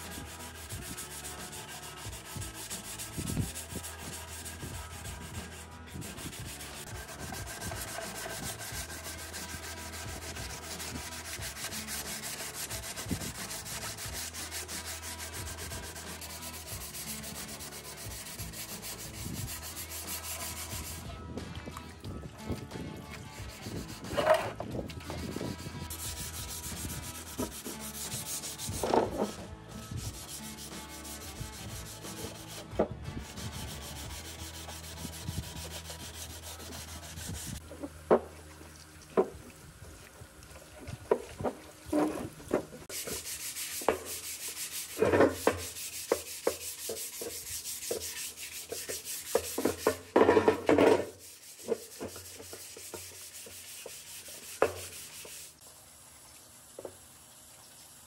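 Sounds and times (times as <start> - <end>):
abrasive pad rubbing on metal: 0.0 - 21.1, 23.2 - 37.6, 41.1 - 55.6.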